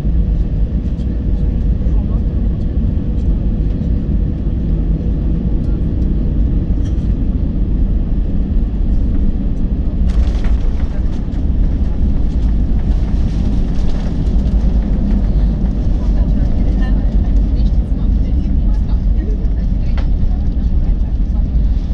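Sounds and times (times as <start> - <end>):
airplane engines and airflow roar: 0.0 - 21.9.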